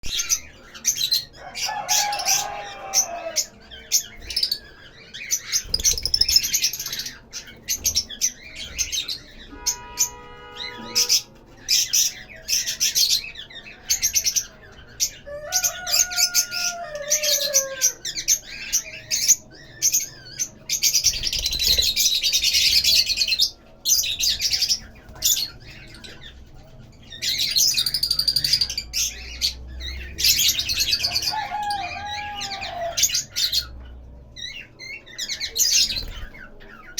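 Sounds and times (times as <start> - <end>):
lovebirds chirping: 0.0 - 36.9.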